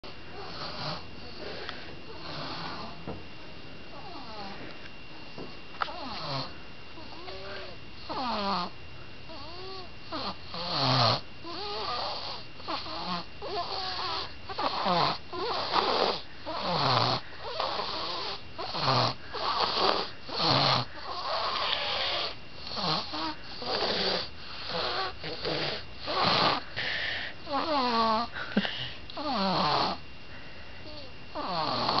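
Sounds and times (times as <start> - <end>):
whistling snores: 0.4 - 3.0, 5.9 - 26.6, 27.4 - 28.3, 29.2 - 30.0, 30.8 - 32.0.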